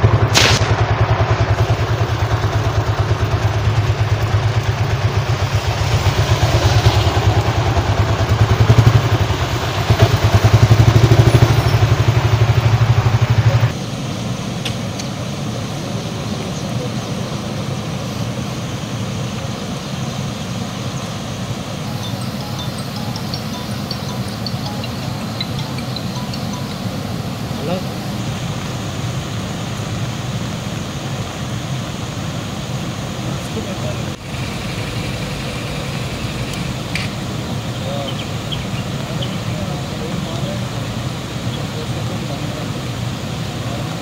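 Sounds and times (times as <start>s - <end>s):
vehicle engine throbbing: 0.0s - 13.9s, 18.9s - 31.6s, 32.9s - 43.7s
heavy rain: 0.0s - 44.0s.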